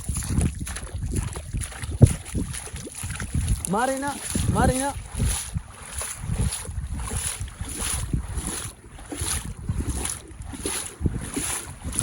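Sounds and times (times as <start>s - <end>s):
water sloshing rhythmically: 0.0s - 12.0s
wind rumbling on microphone: 0.0s - 12.0s.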